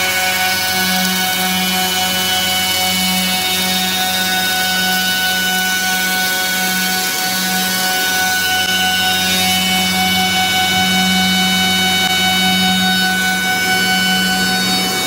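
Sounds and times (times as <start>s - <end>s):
cutter heads whining: 0.0s - 15.0s
wood planer machine drone: 0.0s - 15.0s.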